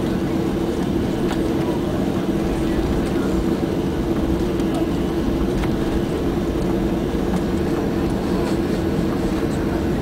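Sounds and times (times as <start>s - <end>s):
jet engines humming in cabin: 0.0s - 10.0s.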